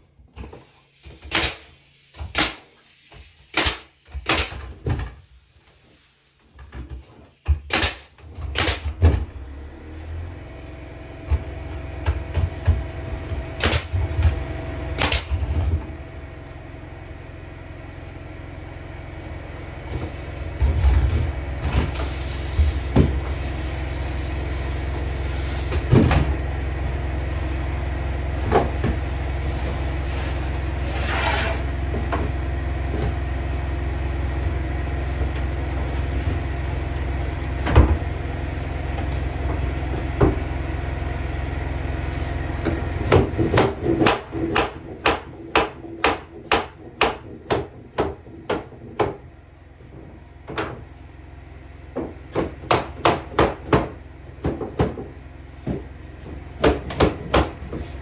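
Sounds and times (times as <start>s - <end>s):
low motor hum: 9.1s - 58.0s.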